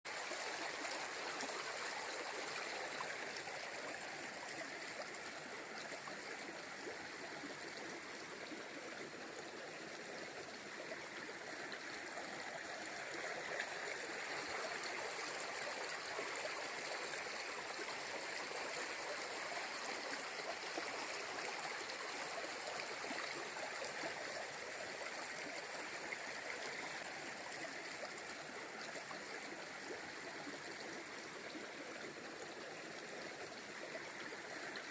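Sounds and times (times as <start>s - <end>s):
river water flowing over rocks: 0.1s - 34.9s.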